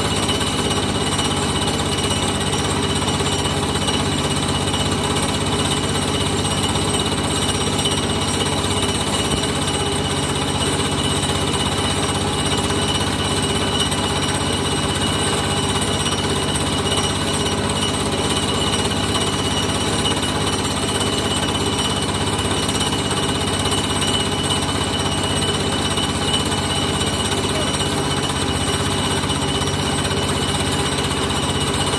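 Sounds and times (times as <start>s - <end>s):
machine rattling steadily: 0.0s - 31.9s.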